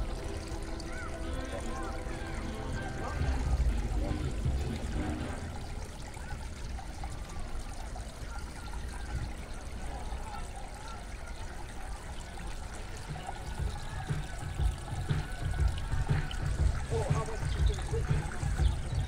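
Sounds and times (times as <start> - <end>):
fountain water trickling and splashing: 0.0 - 19.0.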